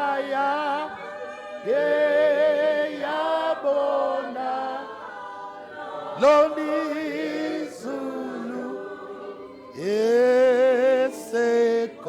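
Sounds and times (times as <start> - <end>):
a cappella hymn singing: 0.0 - 12.0.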